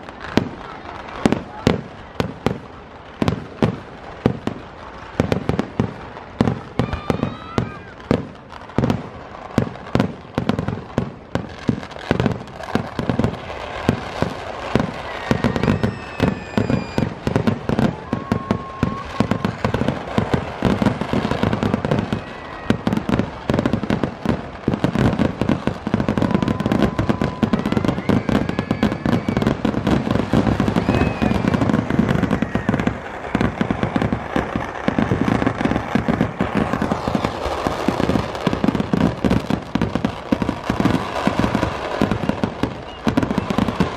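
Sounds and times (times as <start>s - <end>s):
firecracker bangs: 0.0s - 43.9s
whistling fireworks: 0.0s - 43.9s.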